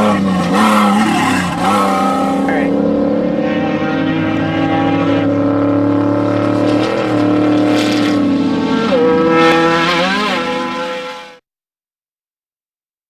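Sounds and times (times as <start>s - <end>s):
race vehicle engine running hard: 0.0s - 11.4s.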